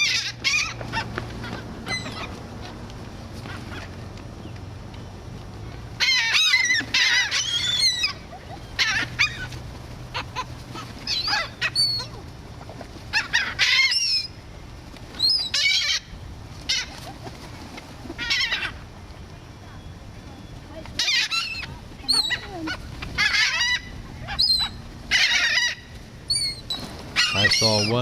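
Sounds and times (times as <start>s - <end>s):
gulls calling: 0.0s - 28.0s.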